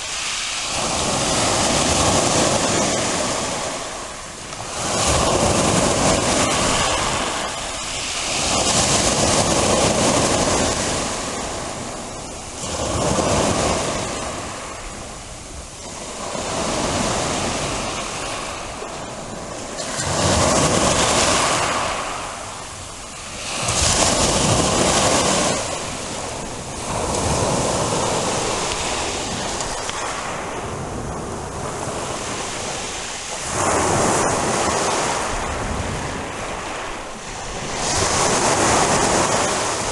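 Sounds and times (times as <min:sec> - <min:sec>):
waves washing onto shore: 0:00.0 - 0:39.9.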